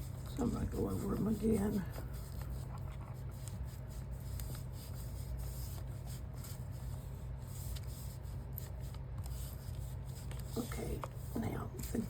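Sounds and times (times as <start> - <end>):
foam tool swishing on paper: 0.0 - 12.0
steady low hum: 0.0 - 12.0.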